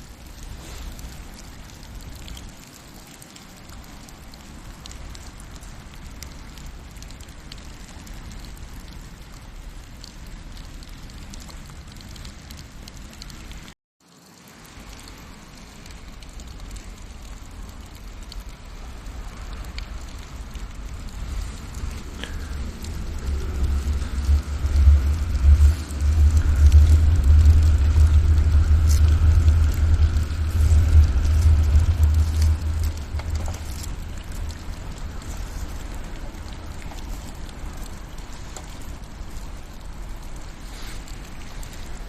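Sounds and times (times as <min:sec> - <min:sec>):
steady rain: 0:00.0 - 0:42.0
ticks of raindrops: 0:00.0 - 0:42.0
wood fire crackling: 0:00.0 - 0:42.0.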